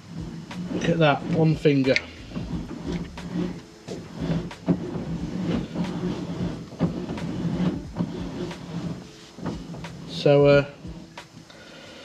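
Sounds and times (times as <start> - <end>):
power steering motor humming: 0.0 - 11.4.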